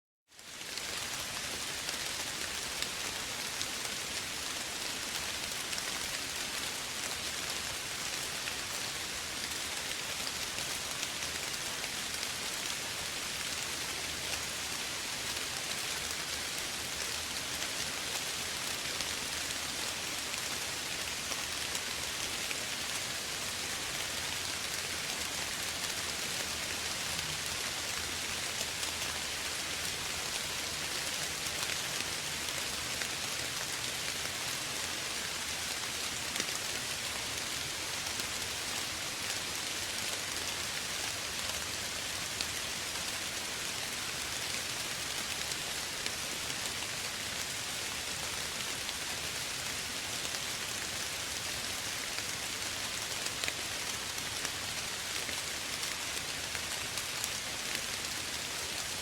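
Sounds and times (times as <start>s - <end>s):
soft rain pattering: 0.3s - 59.0s.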